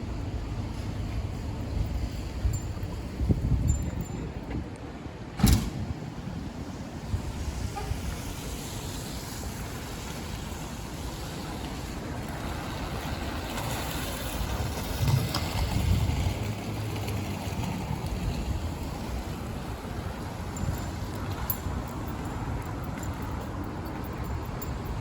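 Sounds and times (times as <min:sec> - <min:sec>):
street noise: 0:00.0 - 0:25.0
wind rumbling on microphone: 0:00.0 - 0:25.0.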